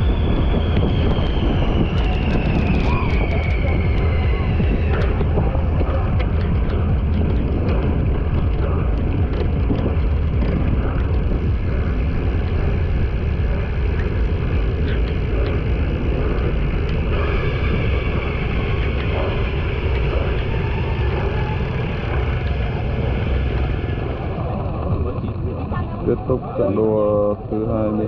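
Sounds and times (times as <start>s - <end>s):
vehicle running noise: 0.0s - 28.0s
wind rumble on microphone: 0.0s - 28.0s.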